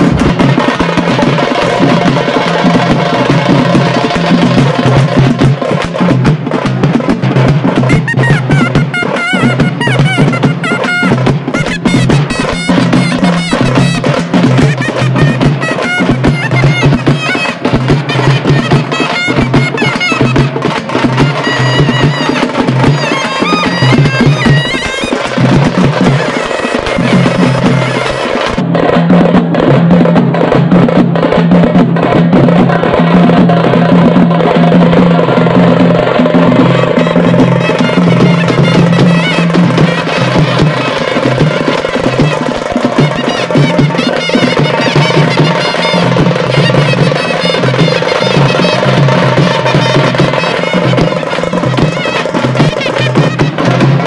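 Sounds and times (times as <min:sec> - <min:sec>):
wind instrument melody: 0:00.0 - 0:06.7, 0:07.3 - 0:29.0, 0:32.0 - 0:54.0
hand drums fast rhythm: 0:00.0 - 0:54.0.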